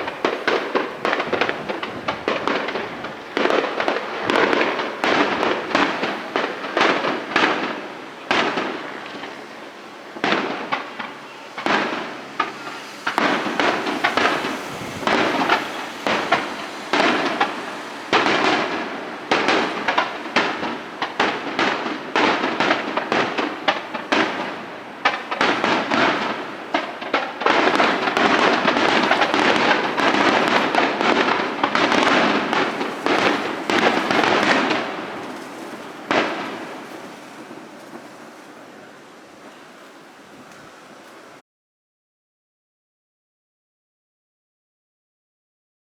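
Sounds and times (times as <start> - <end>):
fireworks bursting: 0.0 - 41.4
fireworks crackling: 0.0 - 41.4.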